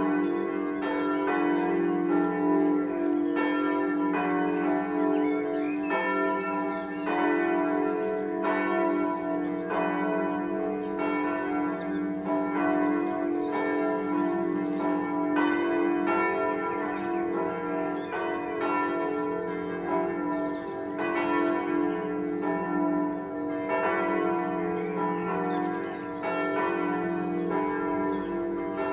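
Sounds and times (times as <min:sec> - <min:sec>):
church bells pealing: 0:00.0 - 0:28.9.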